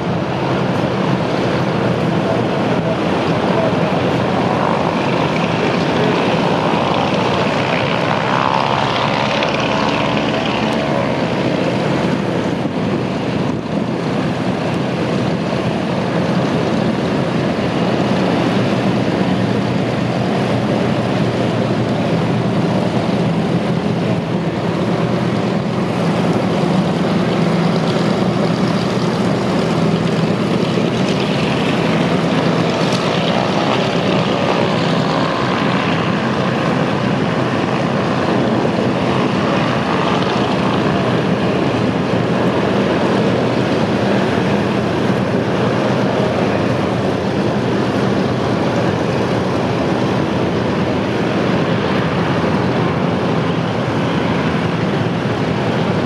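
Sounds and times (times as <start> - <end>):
aircraft piston engines running: 0.0 - 56.0
propeller drone: 0.0 - 56.0.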